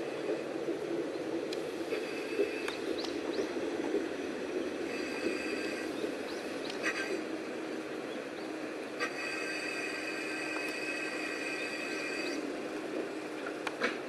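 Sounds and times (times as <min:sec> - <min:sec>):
diesel railcar engine running: 0:00.0 - 0:14.0.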